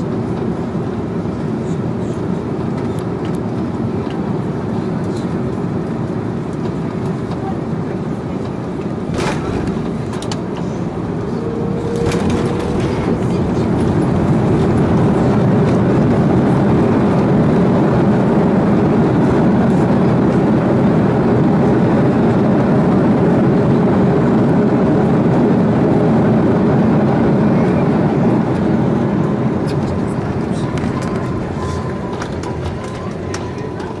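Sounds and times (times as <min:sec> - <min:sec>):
aircraft engines and air rushing: 0:00.0 - 0:34.0.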